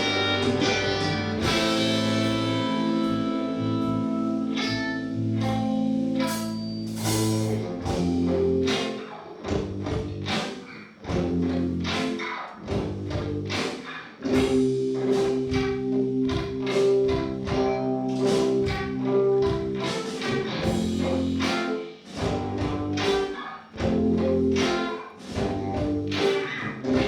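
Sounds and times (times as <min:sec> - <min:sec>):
drums: 0:00.0 - 0:27.0
electric guitars playing chords: 0:00.0 - 0:27.0.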